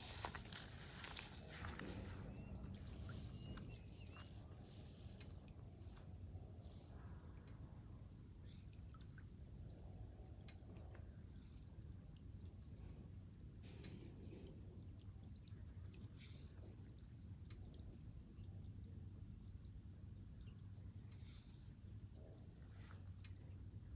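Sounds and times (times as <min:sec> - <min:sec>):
steady high-pitched whine: 0:00.0 - 0:23.9.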